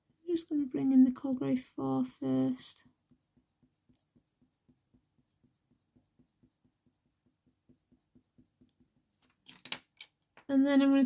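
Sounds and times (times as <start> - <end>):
pencil scratching on paper: 0.0 - 9.4.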